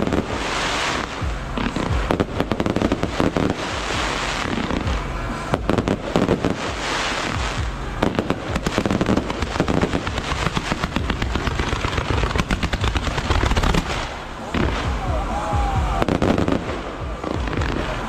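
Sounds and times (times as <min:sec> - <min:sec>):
firecrackers banging: 0:00.0 - 0:18.0
fireworks hissing: 0:00.0 - 0:18.0.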